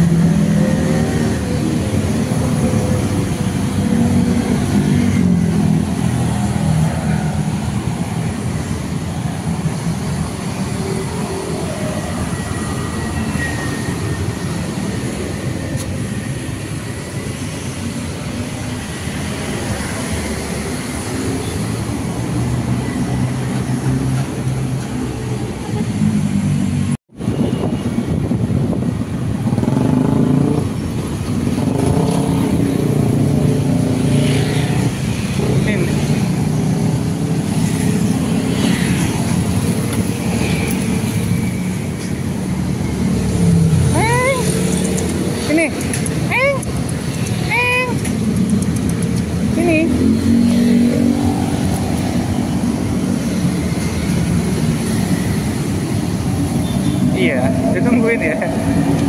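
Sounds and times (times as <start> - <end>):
car engines passing: 0.0 - 59.0
road traffic rumble: 0.0 - 59.0.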